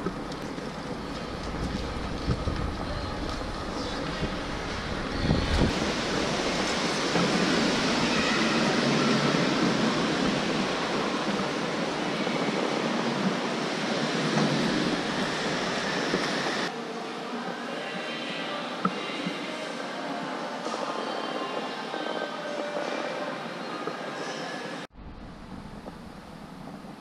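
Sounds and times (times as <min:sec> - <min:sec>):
indoor shopping mall ambience: 0:00.0 - 0:27.0.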